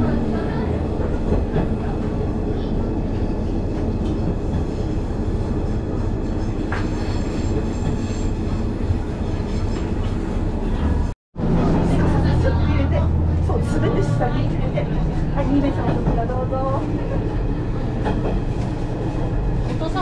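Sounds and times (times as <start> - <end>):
diesel railcar rumbling: 0.0 - 20.0.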